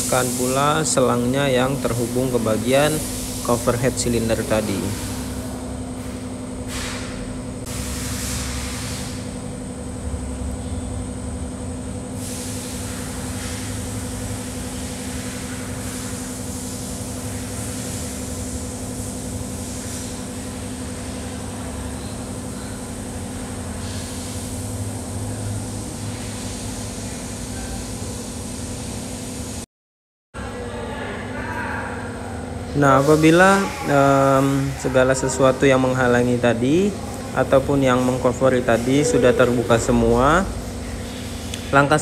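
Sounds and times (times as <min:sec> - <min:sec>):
mechanical hum: 0:00.0 - 0:29.7, 0:30.4 - 0:42.0.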